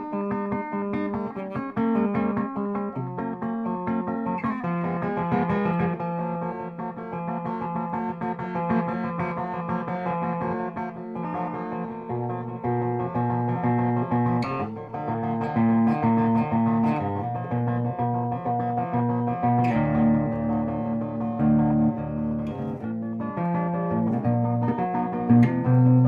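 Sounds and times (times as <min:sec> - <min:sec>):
electric guitar notes and chords: 0:00.0 - 0:26.0.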